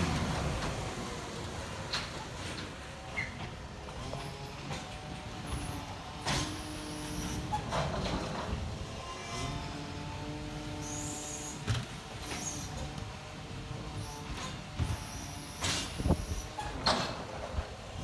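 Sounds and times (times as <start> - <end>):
garbage truck hydraulic whine: 0.0 - 8.5, 10.6 - 17.6.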